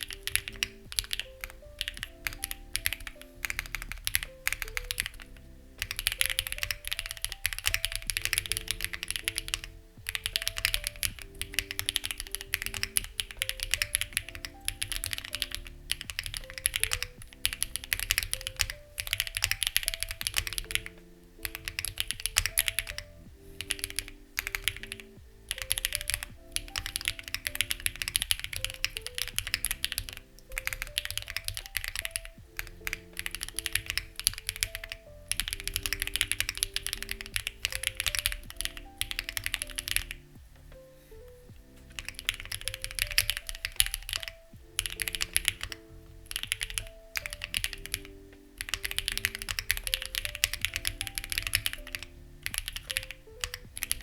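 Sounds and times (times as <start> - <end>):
mechanical keyboard typing: 0.0 - 54.0
soft background music: 0.0 - 54.0.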